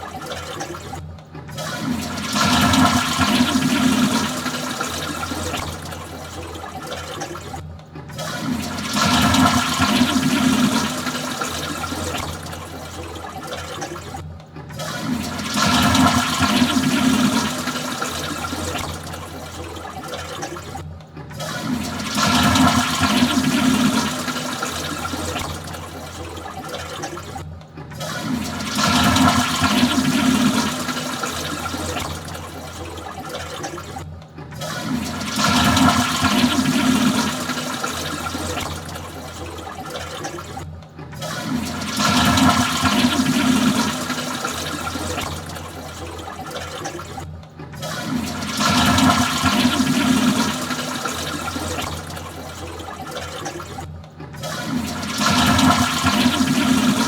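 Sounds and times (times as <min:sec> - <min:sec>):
toilet flushing: 0:00.0 - 0:57.0.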